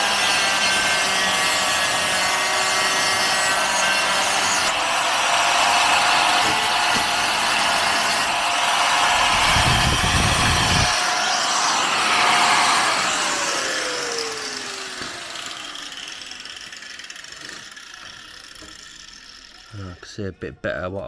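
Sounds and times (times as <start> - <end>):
angle grinder grinding steel: 0.0 - 19.8.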